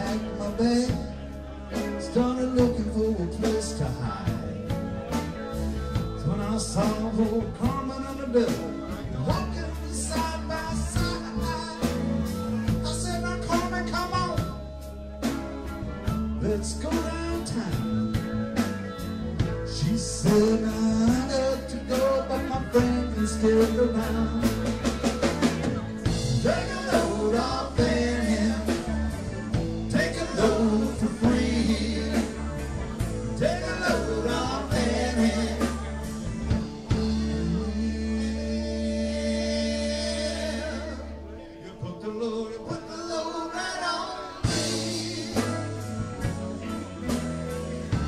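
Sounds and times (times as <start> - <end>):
live rock band with singing: 0.0 - 48.0.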